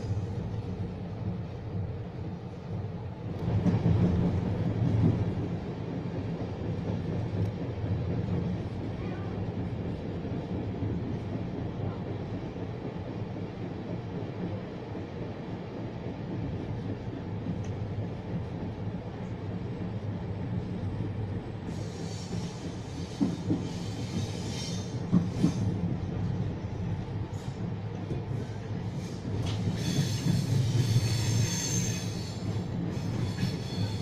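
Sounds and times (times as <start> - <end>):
train running on track: 0.0 - 34.0.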